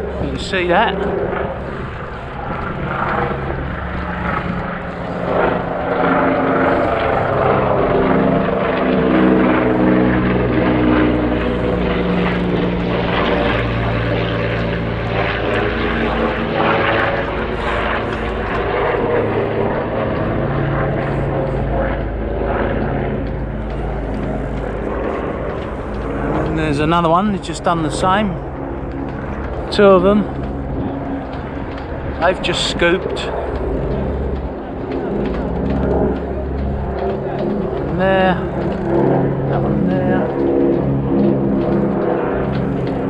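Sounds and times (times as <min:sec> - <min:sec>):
propeller plane droning overhead: 0:00.0 - 0:43.0.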